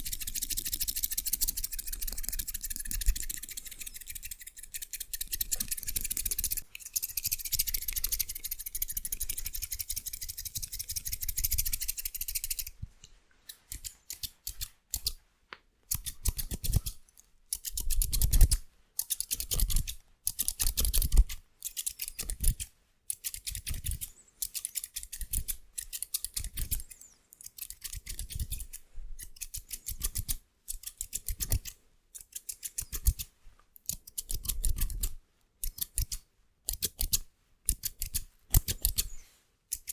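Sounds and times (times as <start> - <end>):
scissors snipping hair: 0.0 - 12.7, 13.5 - 15.2, 15.9 - 39.1.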